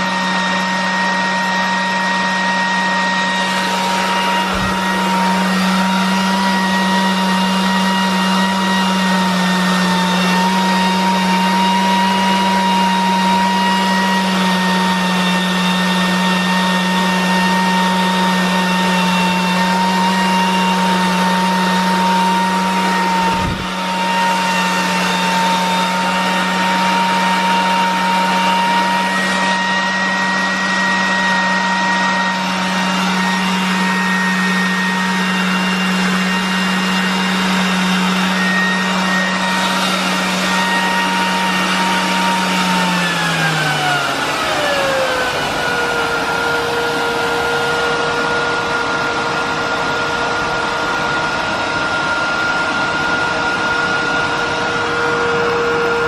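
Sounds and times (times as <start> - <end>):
vacuum cleaner motor whining: 0.0 - 56.0.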